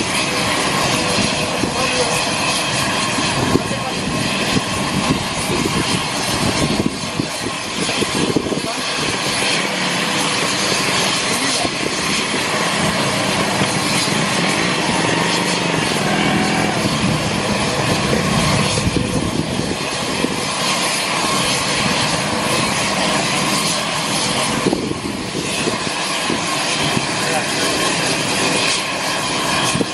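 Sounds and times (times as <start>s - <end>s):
aircraft turbine engines running: 0.0s - 29.9s.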